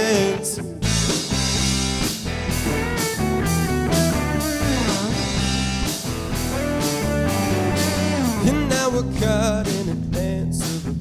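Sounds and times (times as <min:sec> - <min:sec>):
electric guitar lead bending notes: 0:00.0 - 0:09.0
live rock band playing: 0:00.0 - 0:11.0.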